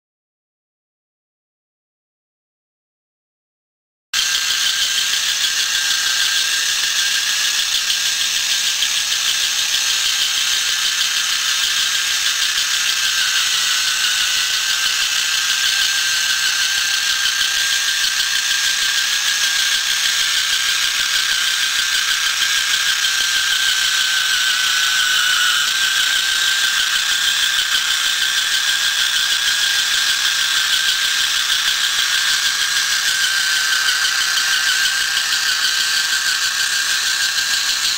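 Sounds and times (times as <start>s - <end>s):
electric motor whine: 4.2s - 37.9s.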